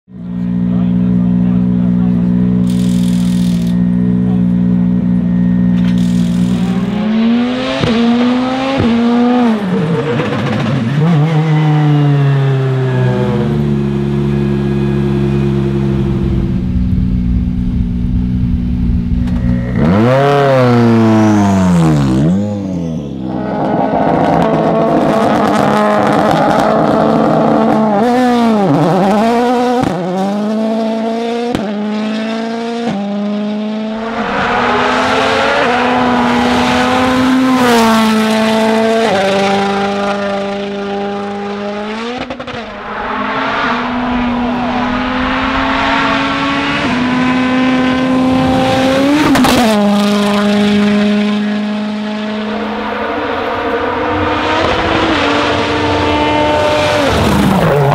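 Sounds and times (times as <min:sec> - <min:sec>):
rally car engine revving: 0:00.1 - 0:57.9.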